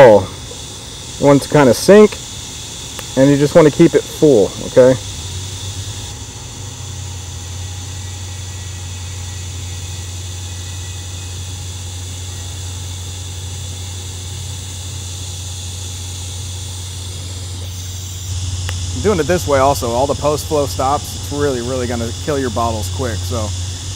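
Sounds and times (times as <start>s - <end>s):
welding arc humming and hissing: 0.0s - 23.9s.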